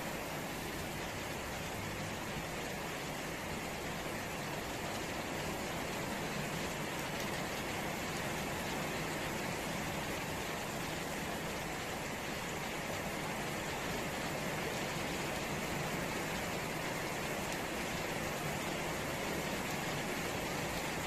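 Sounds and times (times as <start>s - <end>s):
steady rain on foliage: 0.0s - 21.0s.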